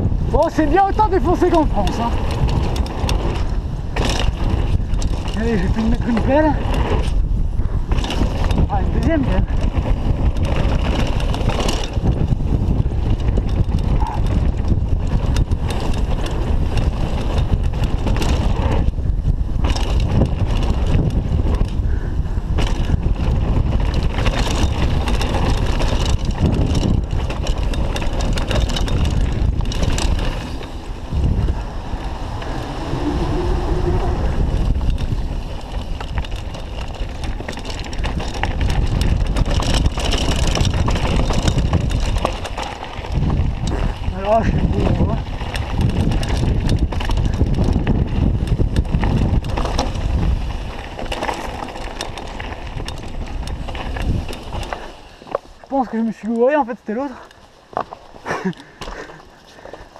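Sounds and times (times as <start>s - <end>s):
bike rattling and knocking: 0.0s - 59.9s
wind rushing over microphone: 0.0s - 59.9s.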